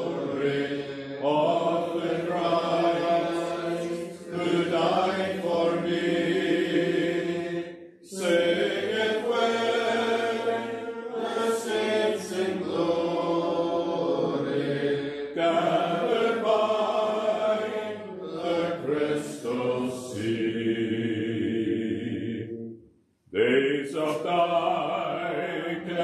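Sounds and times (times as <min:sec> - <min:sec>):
congregation singing a hymn: 0:00.0 - 0:22.6, 0:23.3 - 0:26.0.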